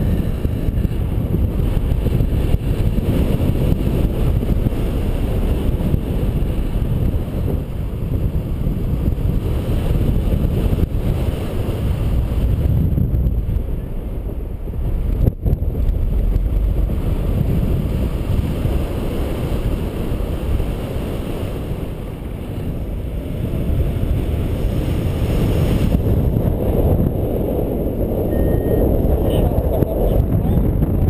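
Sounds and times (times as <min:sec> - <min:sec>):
wind rumble on microphone: 0:00.0 - 0:31.0.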